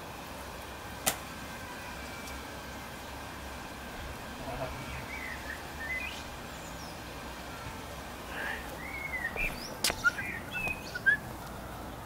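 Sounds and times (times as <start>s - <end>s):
outdoor background noise: 0.0s - 12.0s
small birds chirping: 1.8s - 12.0s.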